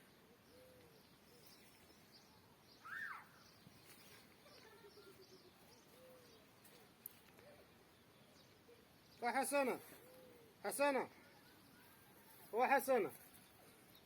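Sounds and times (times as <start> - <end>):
faint birdsong chirps: 0.0 - 14.0.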